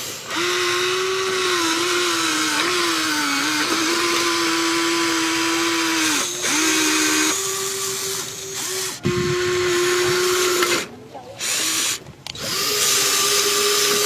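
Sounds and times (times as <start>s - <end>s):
toy gear motors whining: 0.0s - 14.0s.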